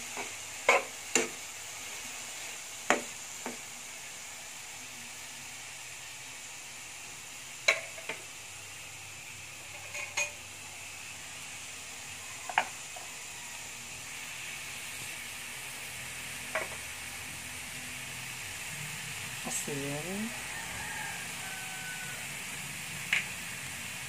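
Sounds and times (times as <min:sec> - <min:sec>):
vegetables sizzling in a frying pan: 0:00.0 - 0:24.0.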